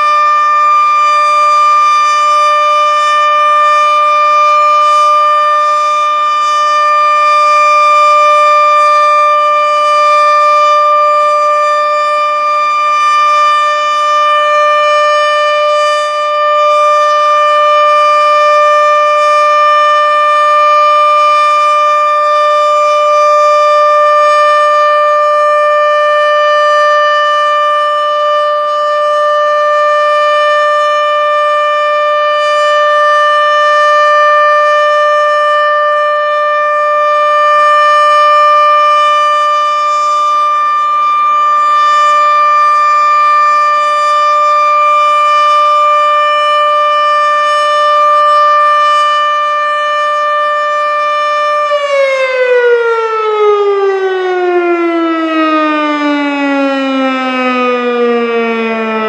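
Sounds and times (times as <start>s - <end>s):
mechanical warning siren: 0.0s - 59.0s.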